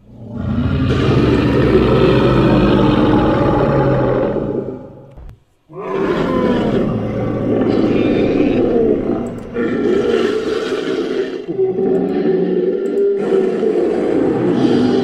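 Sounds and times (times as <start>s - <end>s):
creature roaring: 0.0s - 5.1s, 5.7s - 15.0s.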